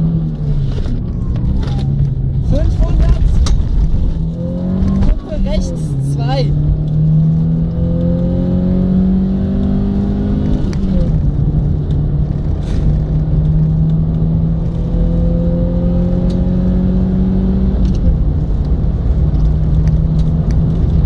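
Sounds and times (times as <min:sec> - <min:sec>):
car engine pulling hard: 0:00.0 - 0:21.0
engine upshifts: 0:00.0 - 0:21.0
road rumble inside car: 0:00.0 - 0:21.0.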